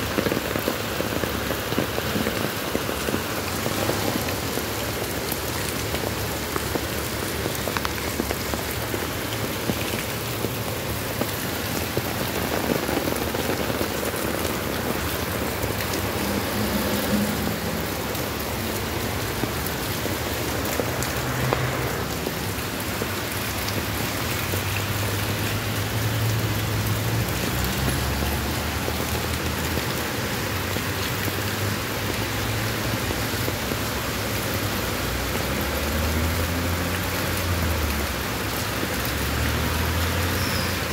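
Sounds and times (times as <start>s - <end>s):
heavy rain on stone paving: 0.0s - 40.9s
water running over pavement: 0.0s - 40.9s.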